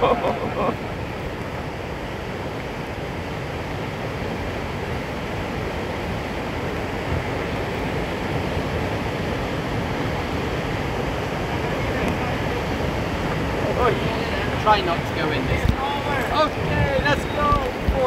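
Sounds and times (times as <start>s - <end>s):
river rapids rushing: 0.0s - 18.0s.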